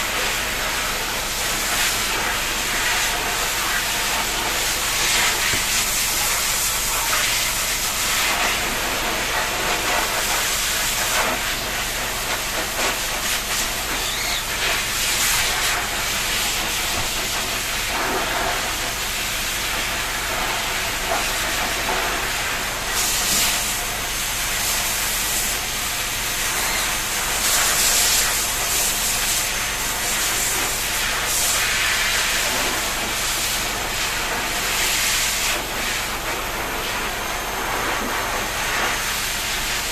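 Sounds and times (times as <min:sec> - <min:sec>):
shower water spraying: 0:00.1 - 0:39.9.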